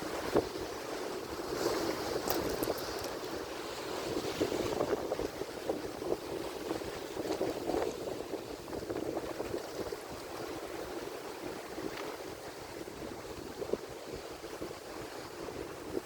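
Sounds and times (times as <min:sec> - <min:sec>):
ocean surf washing in: 0:00.0 - 0:16.0.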